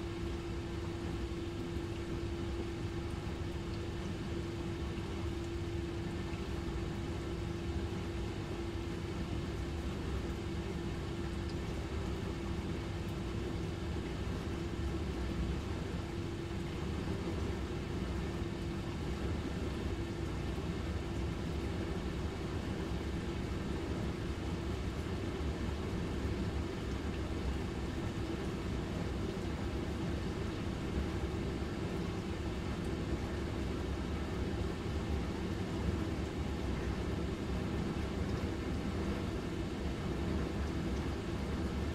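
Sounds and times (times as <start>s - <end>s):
dishwasher motor hum: 0.0s - 41.9s.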